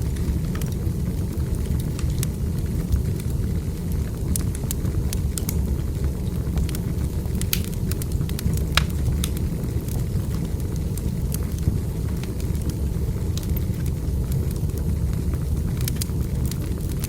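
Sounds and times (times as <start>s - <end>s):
firewood popping and snapping: 0.0s - 3.3s, 3.9s - 17.0s
wood fire burning: 0.0s - 17.0s.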